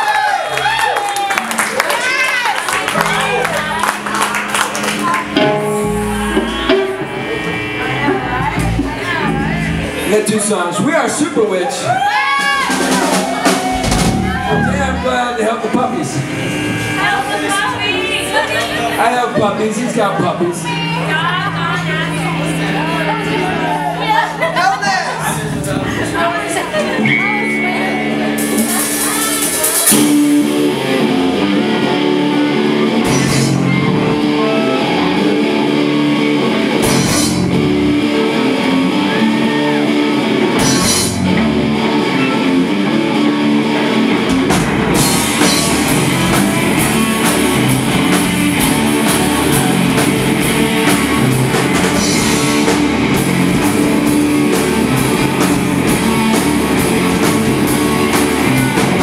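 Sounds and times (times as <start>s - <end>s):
drum kit playing: 0.6s - 11.3s, 11.9s - 59.0s
heavy electric guitar riff: 1.6s - 59.0s.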